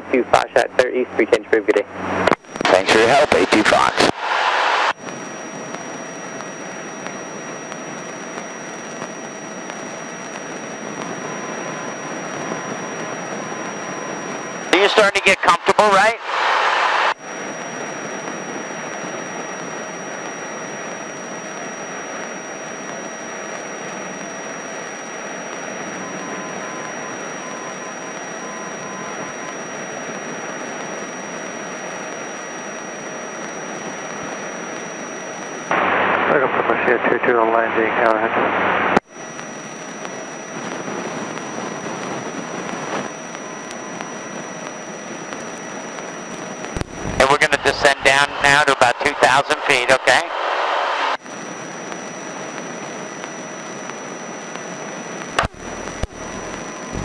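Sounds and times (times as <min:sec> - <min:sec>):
airplane cockpit engine and wind noise: 0:00.0 - 0:57.0
faint steady high whine: 0:00.0 - 0:57.0.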